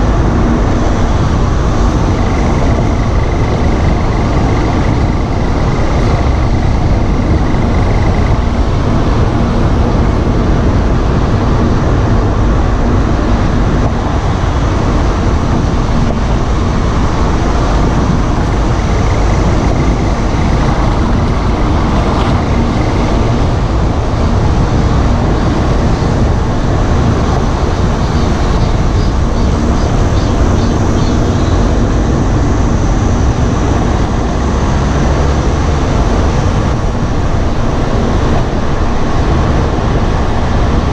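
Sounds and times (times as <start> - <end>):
car road and driving noise: 0.0 - 40.9.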